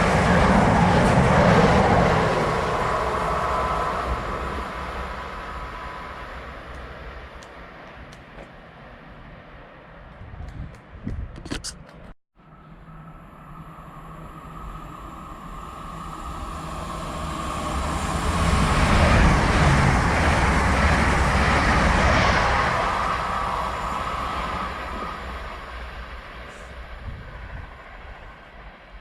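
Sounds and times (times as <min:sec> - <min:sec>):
passenger train passing: 0:00.0 - 0:11.0, 0:12.4 - 0:29.0.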